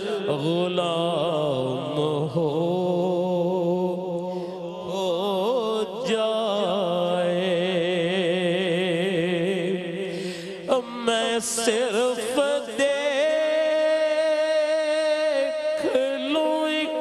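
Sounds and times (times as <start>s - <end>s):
man singing devotional melody: 0.0s - 17.0s.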